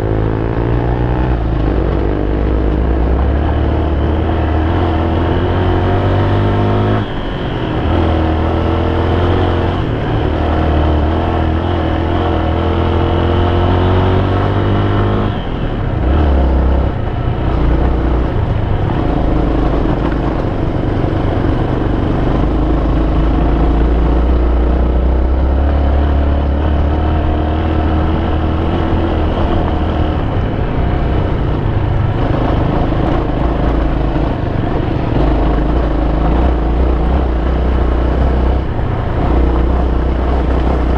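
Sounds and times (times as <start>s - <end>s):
motorcycle engine on gravel road: 0.0s - 40.9s.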